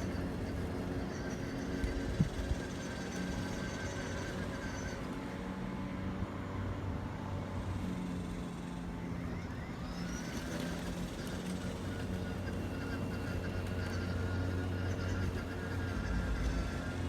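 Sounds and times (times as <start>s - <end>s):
lawn mower humming: 0.0s - 17.0s.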